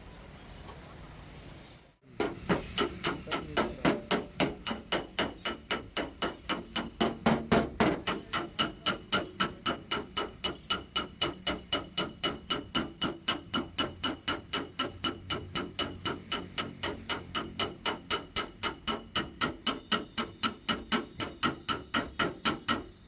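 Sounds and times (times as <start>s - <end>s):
hammer tapping on sheet metal: 2.0s - 23.0s.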